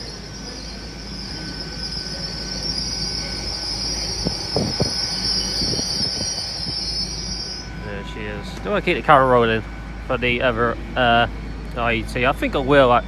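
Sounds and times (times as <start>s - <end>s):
sharp clicks of passing train: 0.0s - 13.0s
train wheels squealing: 0.0s - 13.0s.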